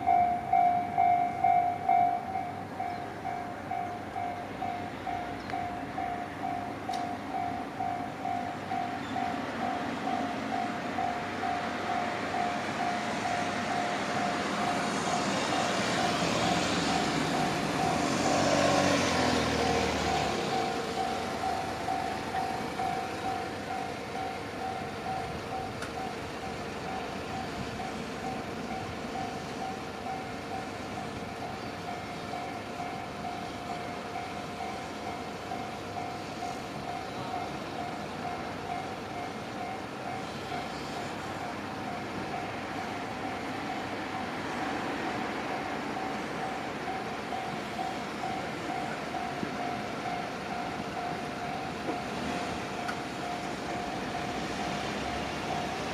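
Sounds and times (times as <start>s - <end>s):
train running: 0.0s - 55.9s.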